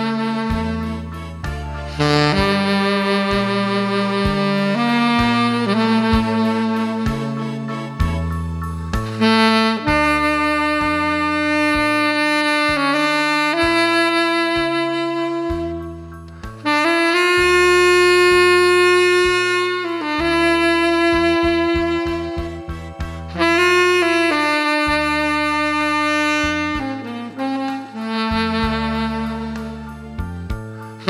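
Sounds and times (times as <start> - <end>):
backing track with bass line: 0.0 - 31.0
tenor saxophone melody: 0.0 - 31.0.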